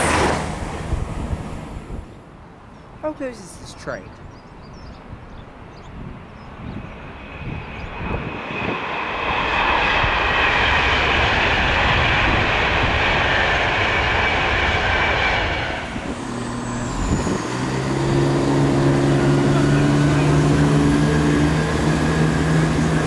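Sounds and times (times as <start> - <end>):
train passing at speed: 0.0 - 2.1, 5.6 - 23.0.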